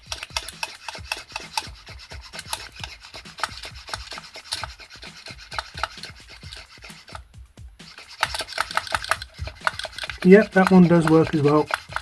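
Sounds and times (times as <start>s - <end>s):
model-kit parts clicking: 0.0s - 12.0s
parts rubbing: 0.0s - 12.0s.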